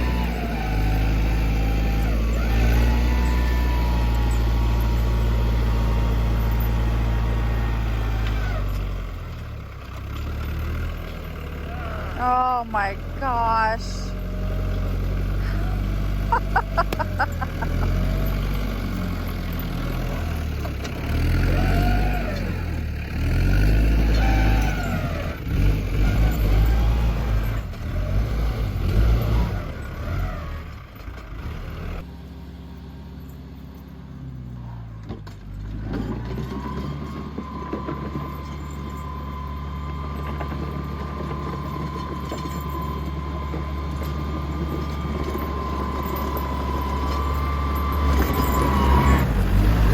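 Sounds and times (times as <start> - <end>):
high engine whine: 0.0 - 49.9
vehicle engine under varying load: 0.0 - 49.9.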